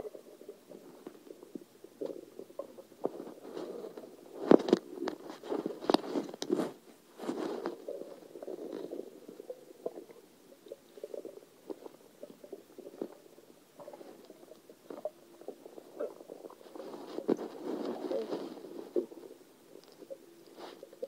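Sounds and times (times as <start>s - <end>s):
stomach gurgling: 0.0s - 21.0s.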